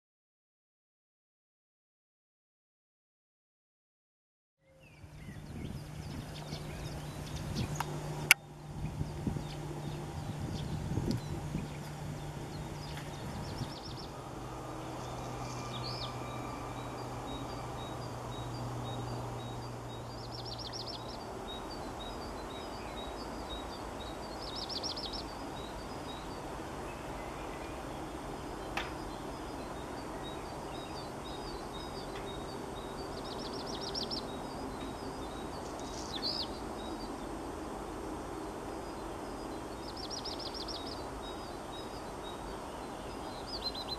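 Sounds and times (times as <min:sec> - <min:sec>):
bird singing: 0:04.6 - 0:37.5, 0:38.7 - 0:43.9
background hum: 0:04.6 - 0:43.9.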